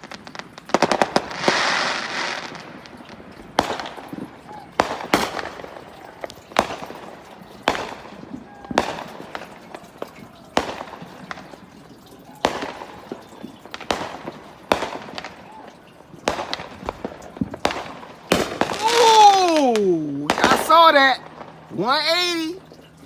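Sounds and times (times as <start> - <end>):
fireworks bangs with crackling: 0.0 - 23.0.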